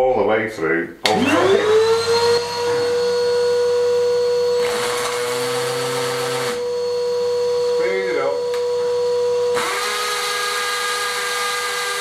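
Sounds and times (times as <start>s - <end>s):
vacuum cleaner running: 1.0s - 12.0s
power drill boring through stone: 1.1s - 12.0s.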